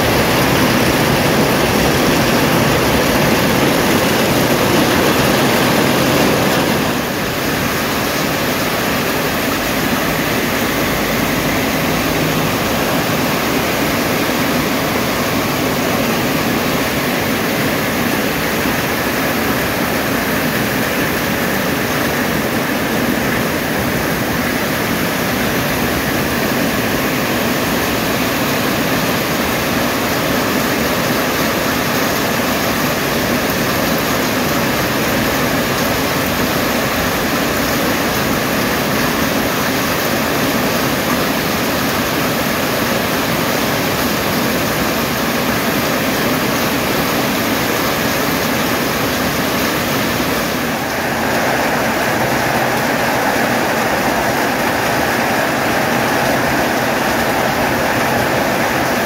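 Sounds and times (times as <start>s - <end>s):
heavy rain with wind: 0.0s - 59.0s.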